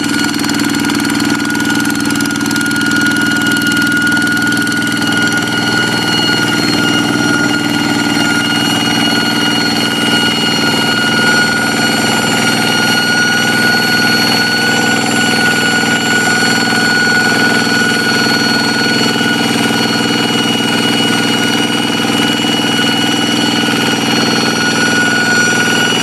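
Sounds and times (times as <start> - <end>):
diesel engine running: 0.0 - 26.0
high unchanging whine: 0.0 - 26.0.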